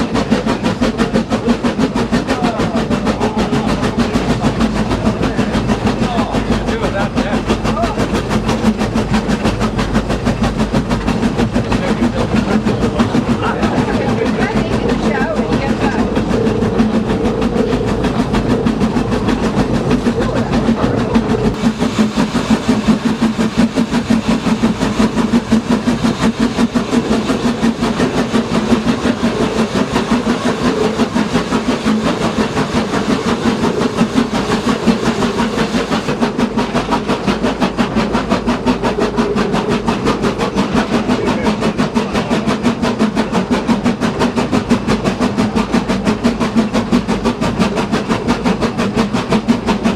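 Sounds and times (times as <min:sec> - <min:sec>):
train clattering on track: 0:00.0 - 0:49.9.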